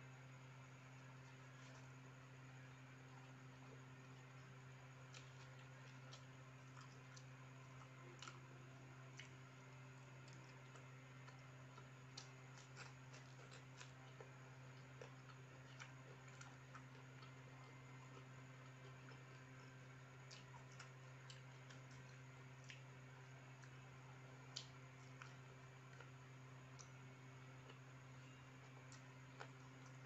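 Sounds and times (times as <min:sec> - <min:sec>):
steady low hum: 0:00.0 - 0:30.0
person eating with hands: 0:01.1 - 0:30.0.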